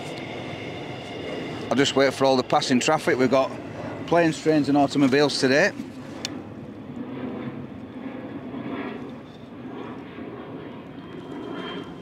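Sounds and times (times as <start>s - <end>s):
aeroplane engine drone: 0.0s - 12.0s.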